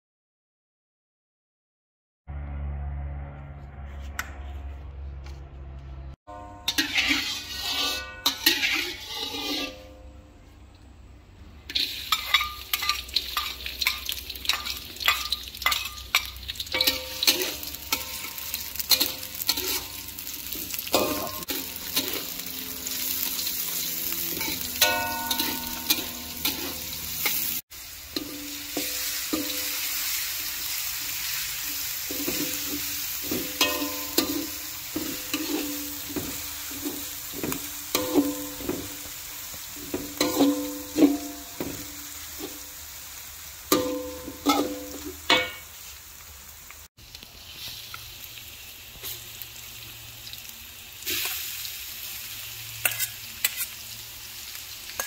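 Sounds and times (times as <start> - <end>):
metal spatula scraping wok: 2.6 - 10.6, 11.6 - 42.9, 43.7 - 46.0, 52.5 - 55.0
shallots sizzling in hot oil: 6.7 - 10.0, 11.6 - 55.0.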